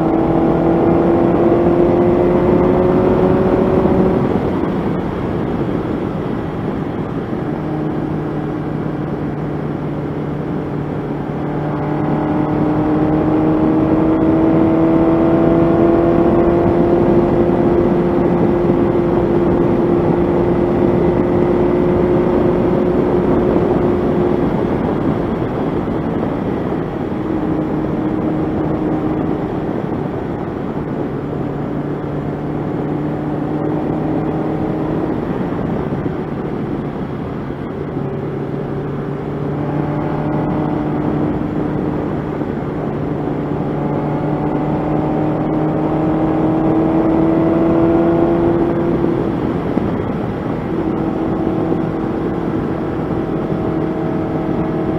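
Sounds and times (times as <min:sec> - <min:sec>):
motorcycle engine at road speed: 0:00.0 - 0:54.9
wind rush: 0:00.0 - 0:54.9.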